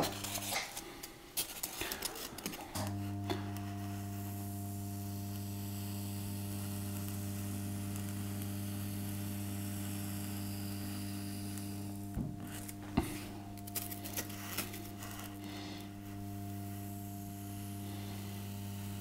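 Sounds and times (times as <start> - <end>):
hot wire cutter humming: 1.8 - 19.0.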